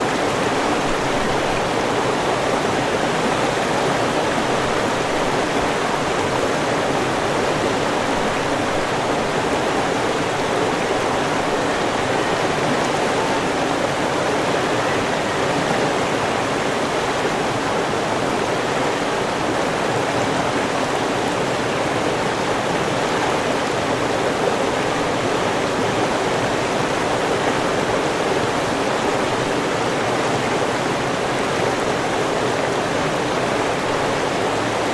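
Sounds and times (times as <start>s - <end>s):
river water rushing over rocks: 0.0s - 34.9s.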